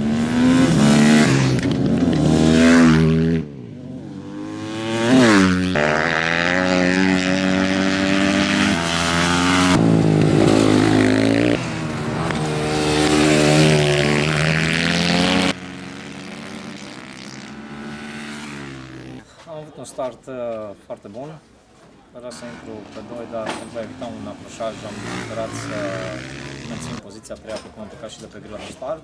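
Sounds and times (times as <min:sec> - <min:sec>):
motorcycle passing by: 0:00.0 - 0:19.2, 0:22.3 - 0:27.0
race motorcycles revving hard: 0:00.0 - 0:19.2, 0:22.3 - 0:27.0.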